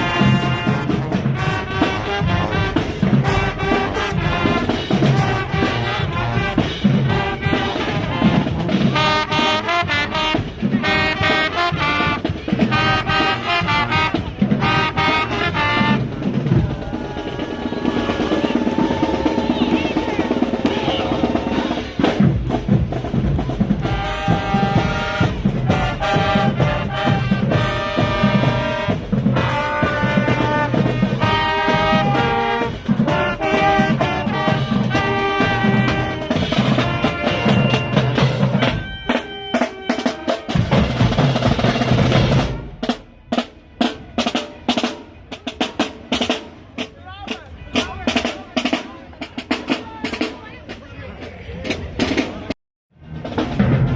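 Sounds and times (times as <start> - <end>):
brass section playing: 0.0 - 22.6, 23.4 - 45.6
marching snare and bass drums: 0.0 - 53.9.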